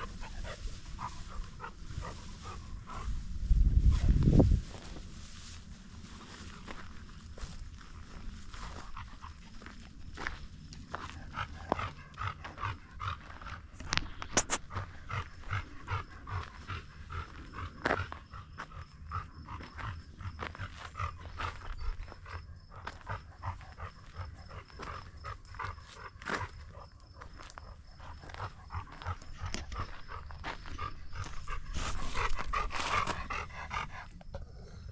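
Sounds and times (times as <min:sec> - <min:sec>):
dog panting: 0:00.0 - 0:03.4, 0:06.1 - 0:34.9
footsteps on dirt track: 0:00.0 - 0:34.5.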